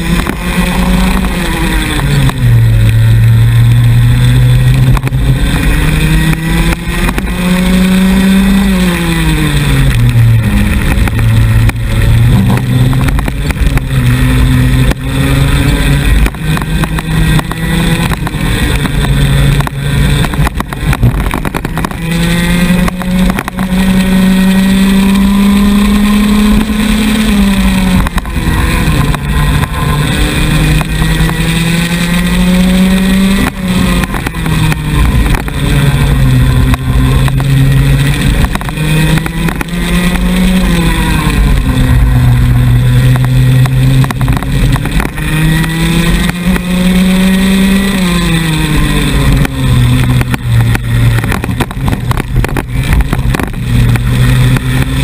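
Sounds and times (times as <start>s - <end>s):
two-stroke kart engine: 0.0s - 55.0s.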